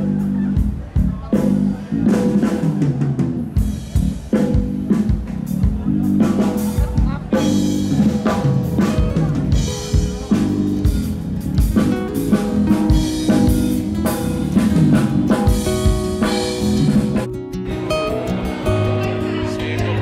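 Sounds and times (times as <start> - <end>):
band playing a song: 0.0 - 20.0
drum kit beat: 0.0 - 20.0.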